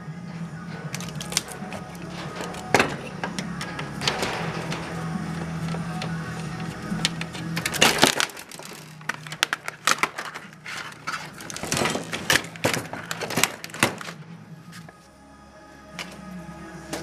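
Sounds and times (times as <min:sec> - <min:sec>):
sheet metal clicks and scrapes: 0:00.3 - 0:14.9.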